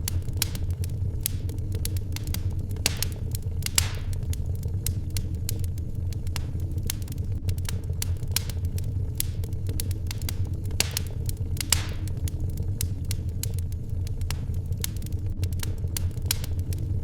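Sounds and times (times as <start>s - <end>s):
low rumble: 0.0s - 17.0s
wood fire crackling: 0.0s - 17.0s.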